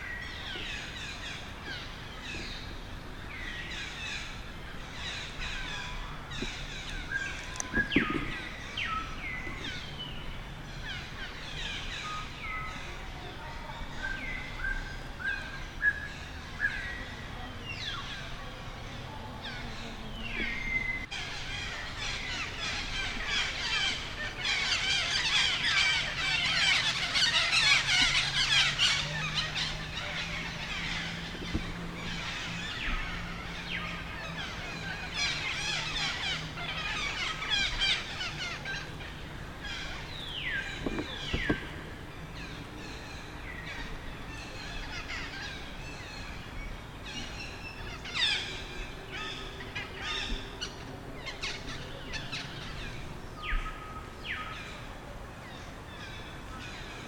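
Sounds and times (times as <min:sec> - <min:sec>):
monkeys and birds chirping: 0:00.0 - 0:57.0.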